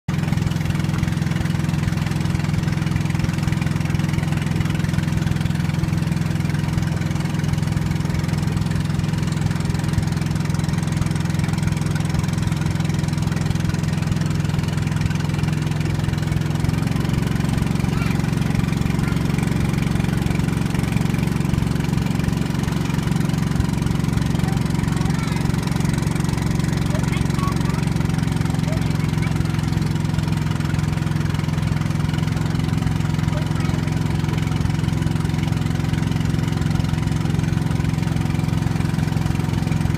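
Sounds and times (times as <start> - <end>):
boat motor humming: 0.1 - 39.9.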